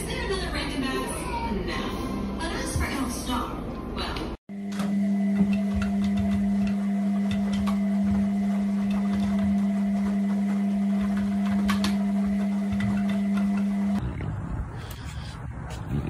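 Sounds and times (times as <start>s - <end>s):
washing machine humming: 0.0s - 14.6s.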